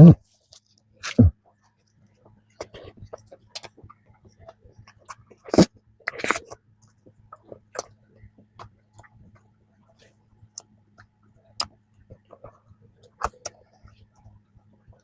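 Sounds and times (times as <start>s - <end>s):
crackly chewing: 0.0s - 15.0s.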